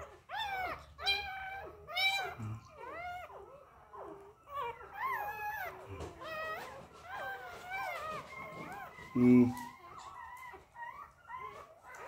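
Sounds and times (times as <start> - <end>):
puppy whining cries: 0.0 - 12.0.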